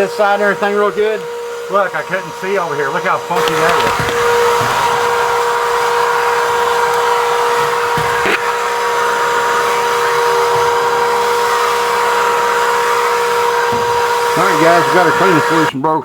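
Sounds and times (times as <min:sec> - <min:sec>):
electric motor whining: 0:00.0 - 0:15.8.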